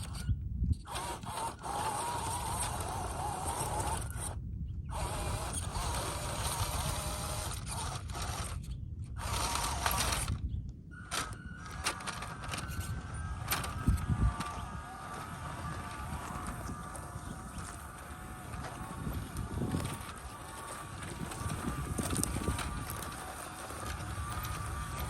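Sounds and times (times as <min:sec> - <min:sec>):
toy car motor whirring: 0:00.0 - 0:25.0
wavering gear whine: 0:00.0 - 0:25.0.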